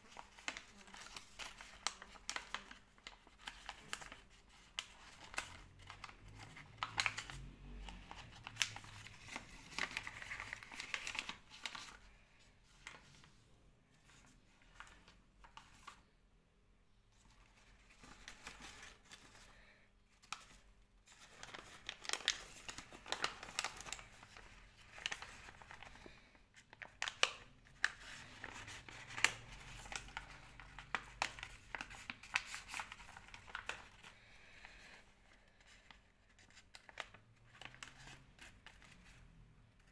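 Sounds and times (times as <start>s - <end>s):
paper rustling and crinkling: 0.0s - 16.1s, 17.1s - 39.9s.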